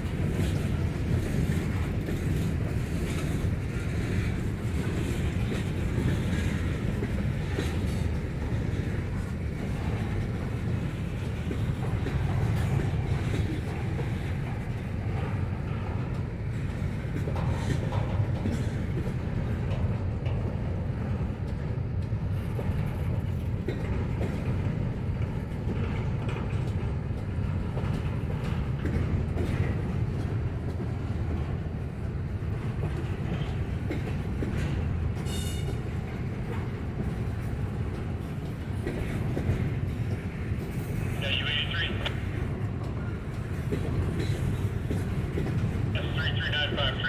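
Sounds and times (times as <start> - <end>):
freight train wheels rumbling: 0.0 - 47.0
wheels clicking over rail joints: 0.0 - 47.0.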